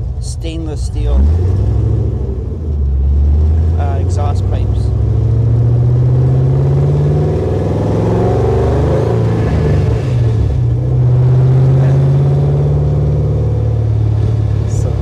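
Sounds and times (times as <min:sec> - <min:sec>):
car engine driving: 0:00.0 - 0:15.0.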